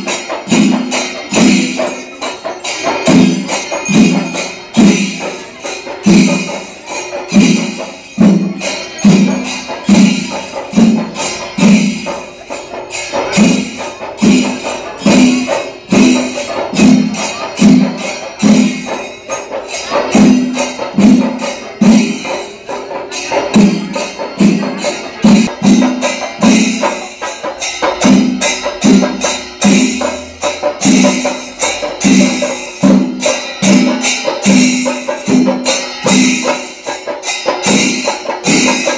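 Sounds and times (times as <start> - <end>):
drums beating: 0.0 - 38.9
metal hand cymbals clashing: 0.0 - 38.9.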